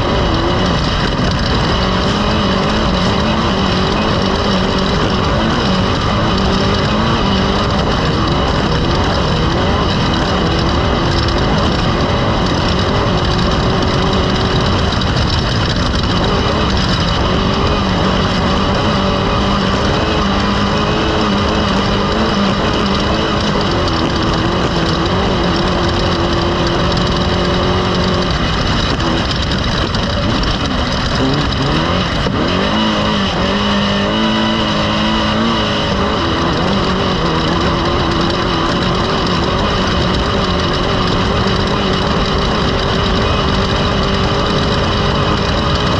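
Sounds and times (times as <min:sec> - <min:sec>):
race vehicle engine revving: 0:00.0 - 0:45.9
rough rattle: 0:00.0 - 0:45.9.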